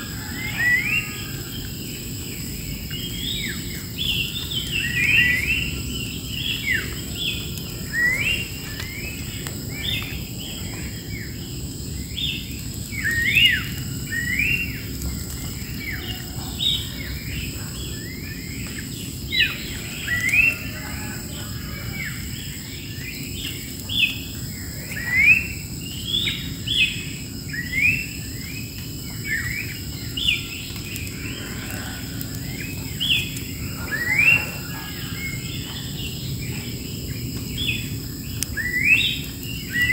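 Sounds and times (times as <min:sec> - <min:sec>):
songbirds chirping and calling: 0:00.0 - 0:39.9.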